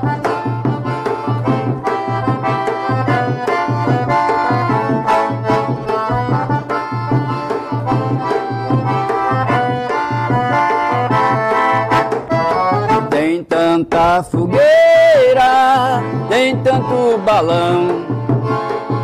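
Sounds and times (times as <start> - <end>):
accordion melody: 0.0 - 19.0
bass drum beating: 0.0 - 19.0.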